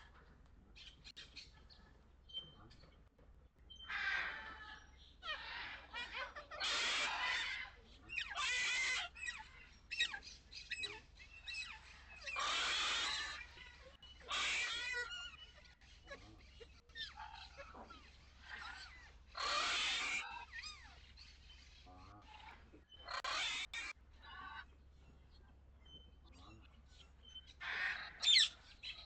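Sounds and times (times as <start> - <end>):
harsh bird calls: 3.7 - 29.0.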